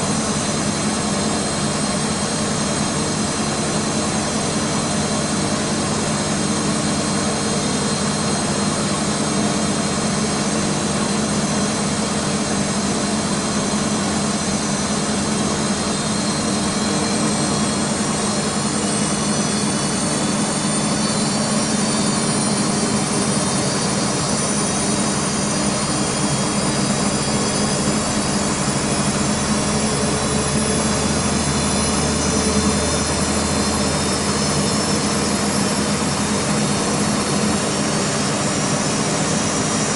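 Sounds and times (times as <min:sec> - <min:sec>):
washing machine motor whine: 0:00.0 - 0:39.9.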